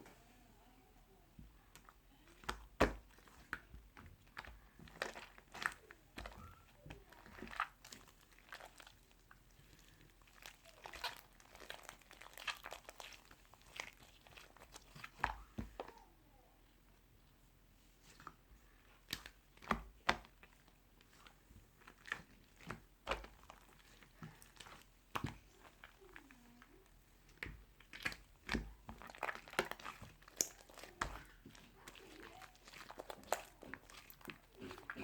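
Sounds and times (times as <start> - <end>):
crisp crunching and crinkling clicks: 1.7 - 15.9, 19.0 - 35.0.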